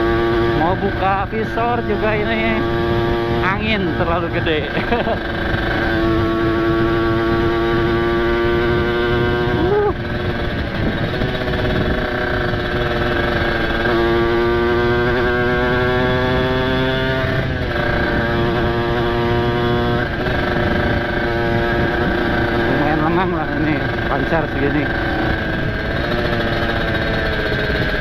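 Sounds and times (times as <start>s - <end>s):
motorcycle engine revving: 0.0s - 28.0s
wind rush on microphone: 0.0s - 28.0s.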